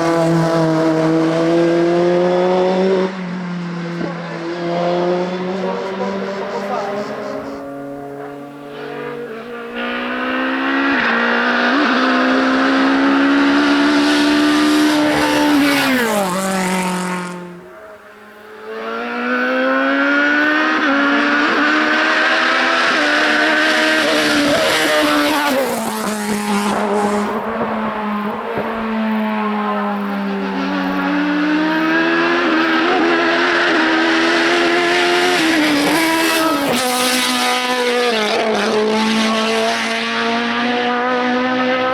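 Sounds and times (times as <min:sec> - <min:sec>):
racing car engine revving: 0:00.0 - 0:41.9.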